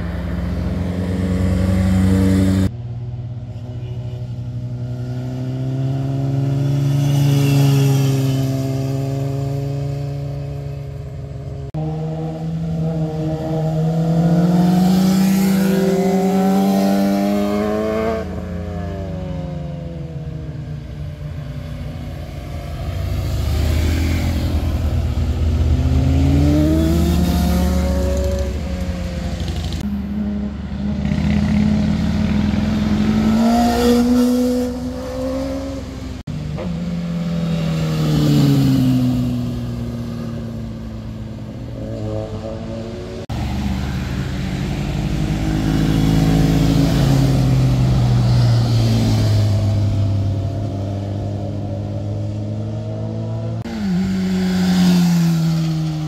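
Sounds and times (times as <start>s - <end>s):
motorcycles accelerating past: 0.0s - 2.7s, 4.7s - 11.0s, 11.6s - 56.0s.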